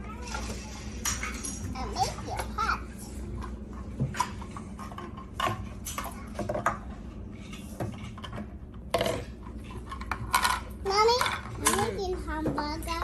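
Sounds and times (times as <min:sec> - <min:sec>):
plastic toys clattering on table: 0:00.1 - 0:02.7, 0:03.4 - 0:13.0.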